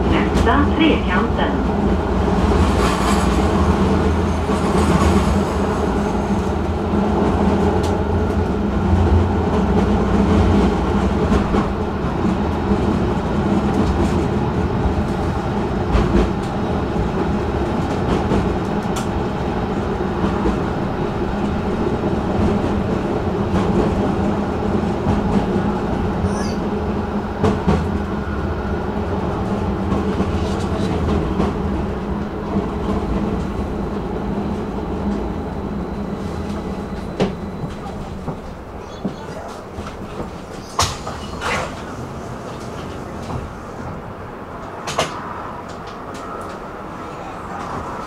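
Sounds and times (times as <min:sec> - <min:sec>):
tram wheels rumbling on rail: 0:00.0 - 0:48.0.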